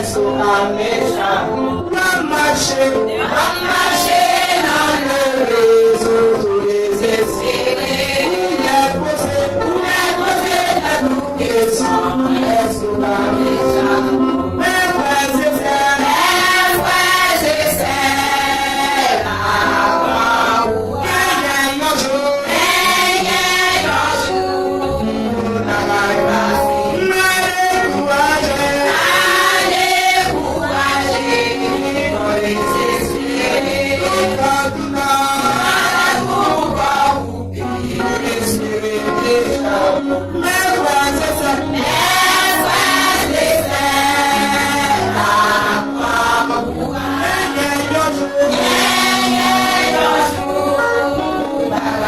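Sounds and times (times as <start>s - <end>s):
choir singing a hymn: 0.0s - 52.0s
instruments keeping a beat: 0.0s - 52.0s.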